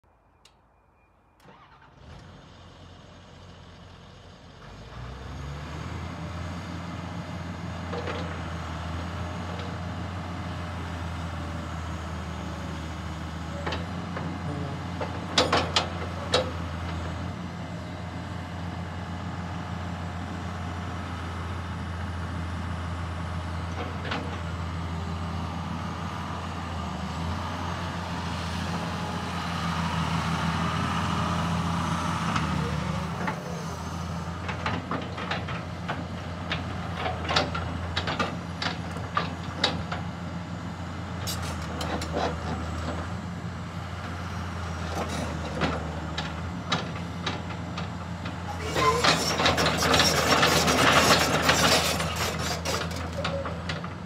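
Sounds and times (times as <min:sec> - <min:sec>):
excavator diesel engine humming: 0:03.2 - 0:54.0.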